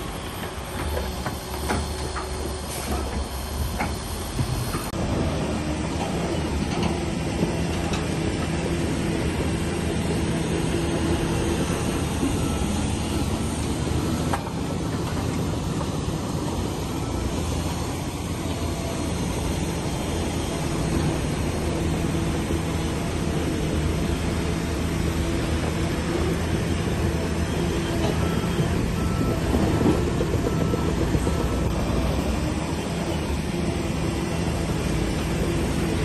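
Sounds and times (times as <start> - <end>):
heavy machinery diesel engine running: 0.0 - 36.0.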